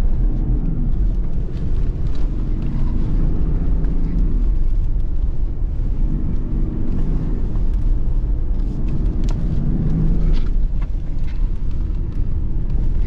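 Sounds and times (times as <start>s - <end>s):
diesel engine driving off road: 0.0s - 13.0s
heavy low rumble: 0.0s - 13.0s.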